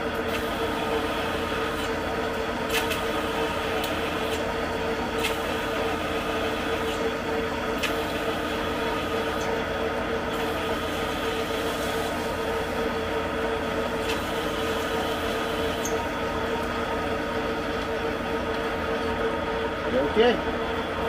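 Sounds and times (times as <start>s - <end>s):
metal lathe humming: 0.0s - 21.0s.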